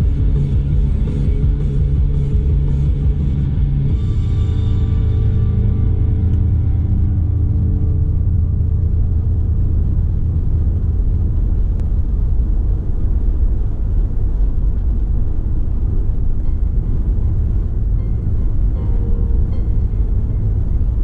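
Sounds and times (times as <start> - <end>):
car tyre and road noise: 0.0 - 21.0.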